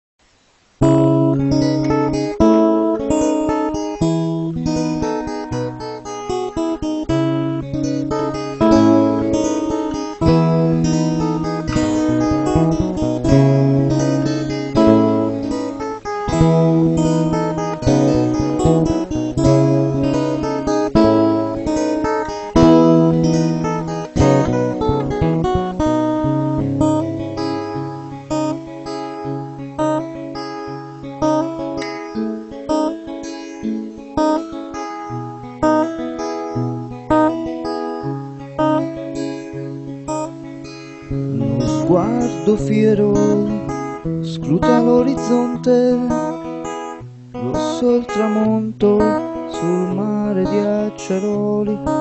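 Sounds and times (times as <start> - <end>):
acoustic guitar playing: 0.8 - 52.0.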